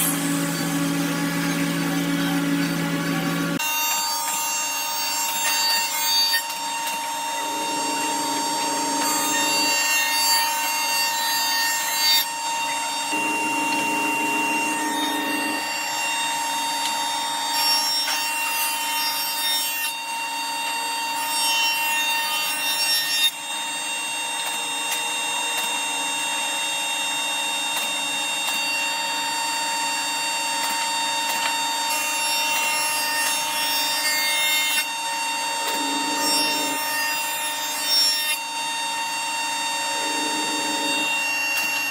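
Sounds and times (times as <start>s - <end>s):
power tool cutting wood: 0.0s - 41.9s.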